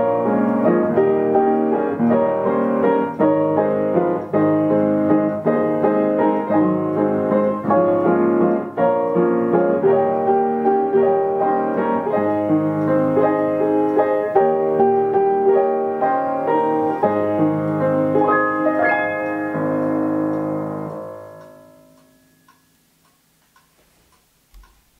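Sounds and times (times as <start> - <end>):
upright piano playing a tune: 0.0 - 23.0.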